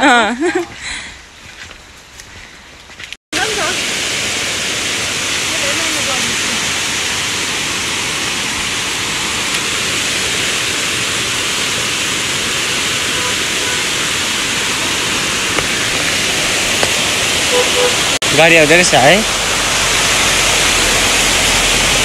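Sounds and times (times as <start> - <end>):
rushing water: 3.3 - 22.0.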